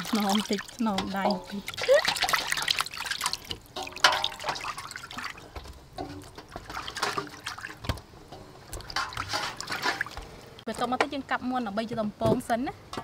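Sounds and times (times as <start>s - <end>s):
water splashing and dripping: 0.0s - 10.6s.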